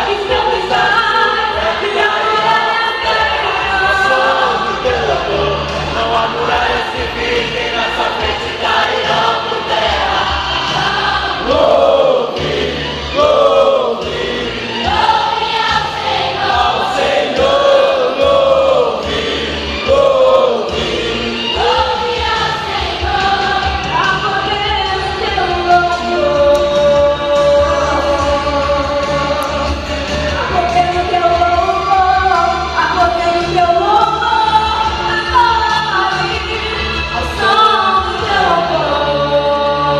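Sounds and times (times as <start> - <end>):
choir singing: 0.0 - 39.9
instrumental accompaniment: 0.0 - 39.9.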